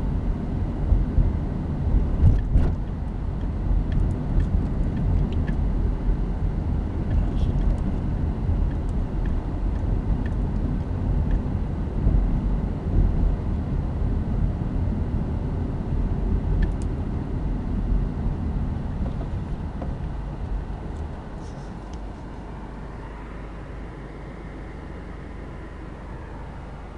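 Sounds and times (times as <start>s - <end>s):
car road and engine rumble: 0.0s - 26.9s.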